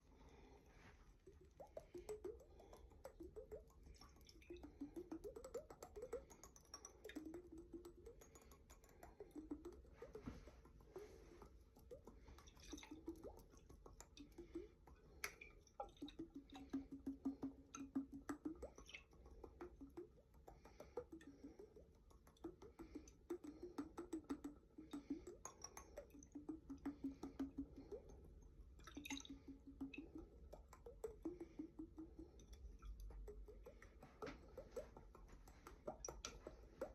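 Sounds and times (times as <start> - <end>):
water sloshing in a jar: 0.0 - 36.9.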